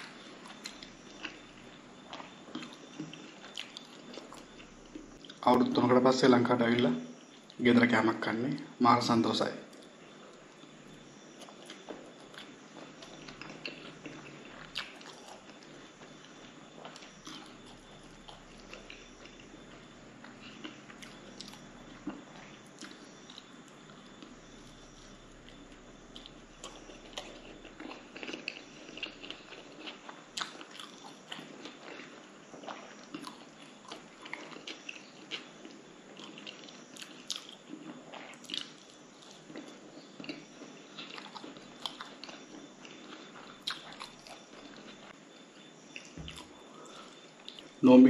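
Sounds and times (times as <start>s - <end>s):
chewing with wet smacks: 0.1s - 5.4s, 11.3s - 47.8s.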